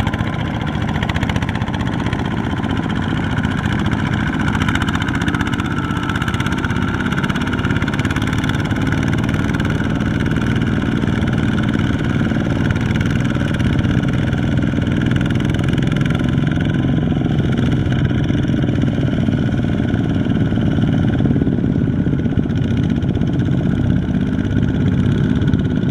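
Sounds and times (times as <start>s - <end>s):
diesel tractor engines running: 0.0s - 25.9s.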